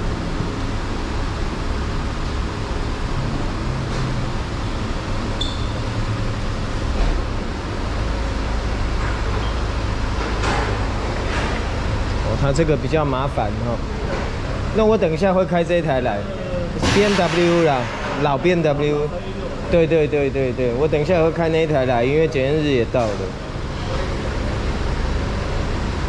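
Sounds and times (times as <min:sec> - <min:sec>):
idling vehicles rumbling: 0:00.0 - 0:26.0.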